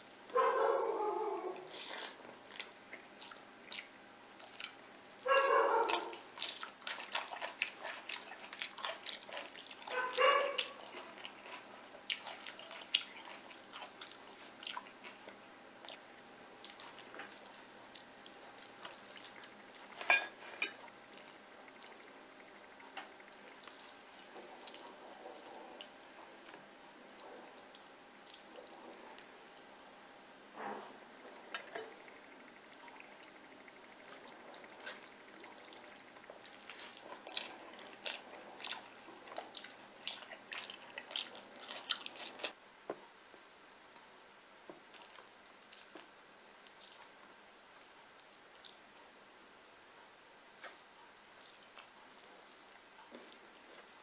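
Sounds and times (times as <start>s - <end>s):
person chewing wetly: 0.0s - 22.0s, 22.8s - 29.8s, 32.7s - 54.0s.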